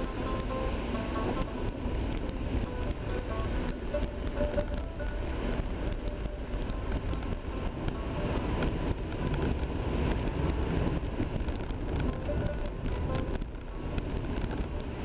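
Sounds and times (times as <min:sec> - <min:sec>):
small ticks: 0:00.0 - 0:14.9
tyre and engine rumble on slush: 0:00.0 - 0:15.0.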